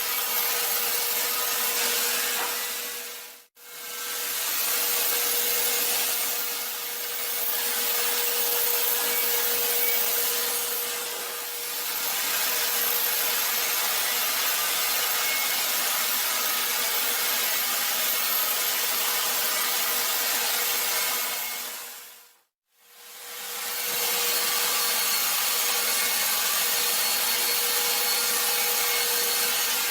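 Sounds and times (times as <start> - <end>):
power saw cutting wood: 0.0 - 22.0, 23.1 - 29.9.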